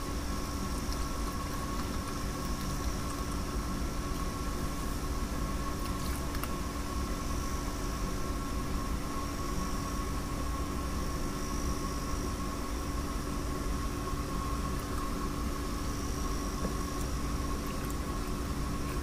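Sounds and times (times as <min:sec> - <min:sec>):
constant hiss: 0:00.0 - 0:19.0
steady mechanical hum: 0:00.0 - 0:19.0.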